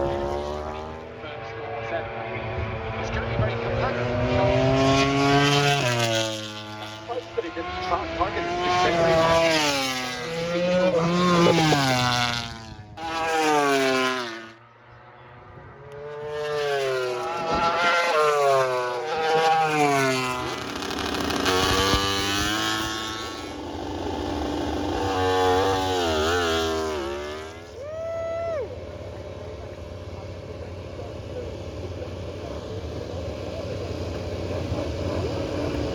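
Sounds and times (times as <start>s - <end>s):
racing motorcycles passing at speed: 0.0s - 35.9s.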